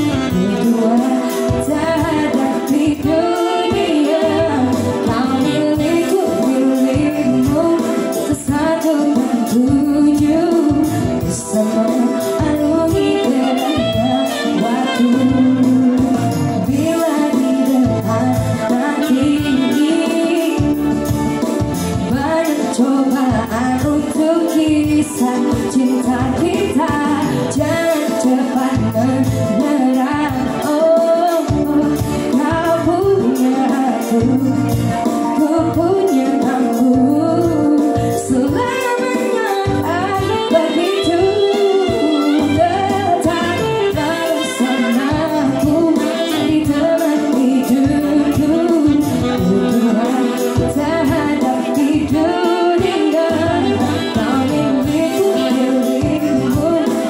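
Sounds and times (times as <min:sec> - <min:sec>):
electronic keyboard playing: 0:00.0 - 0:57.0
woman singing pop ballad: 0:00.0 - 0:57.0.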